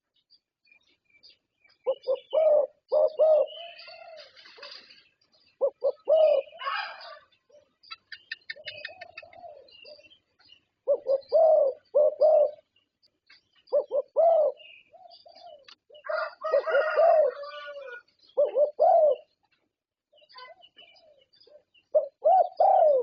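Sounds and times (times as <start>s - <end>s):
small birds chirping: 0.0s - 23.0s
dove cooing: 1.8s - 4.9s, 5.5s - 12.7s, 13.7s - 19.4s, 20.2s - 23.0s.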